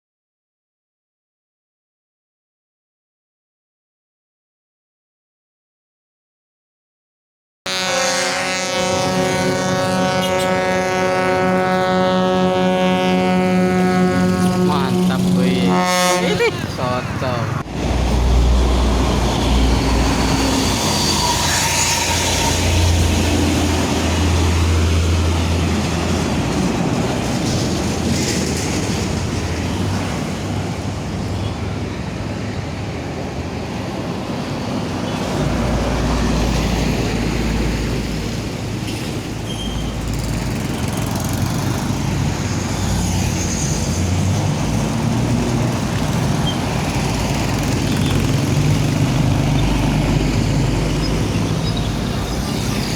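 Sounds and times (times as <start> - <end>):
buses driving past: 7.7 - 52.9.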